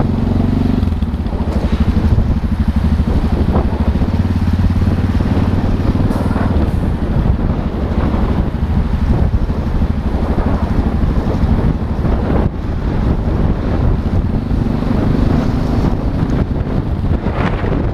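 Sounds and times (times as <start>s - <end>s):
motorcycle engine running: 0.0s - 17.9s
road and traffic noise: 0.0s - 17.9s.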